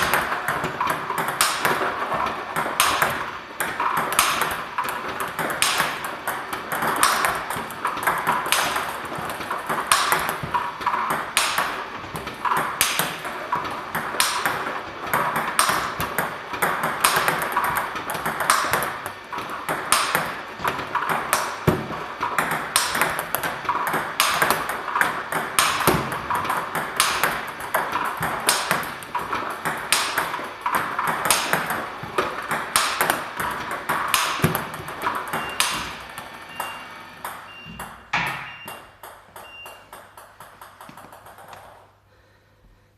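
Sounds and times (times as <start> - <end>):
table tennis ball rally: 0.0 - 42.0.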